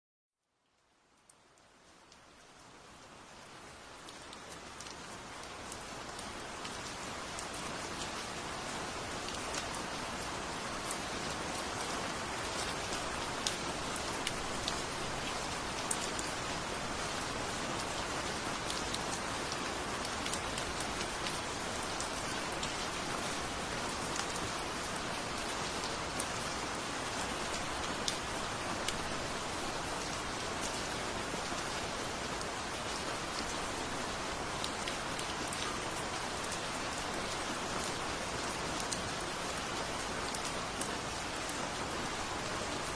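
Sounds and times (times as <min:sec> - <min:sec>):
steady rainfall: 0:00.4 - 0:42.9.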